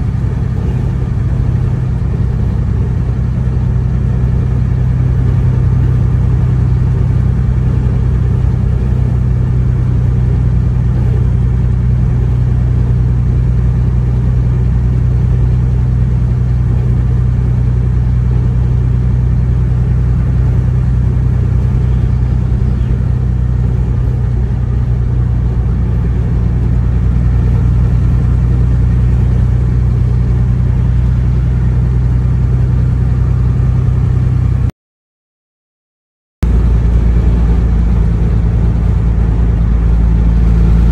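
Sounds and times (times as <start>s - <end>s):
engine and road noise in cabin: 0.0s - 34.7s, 36.4s - 40.9s.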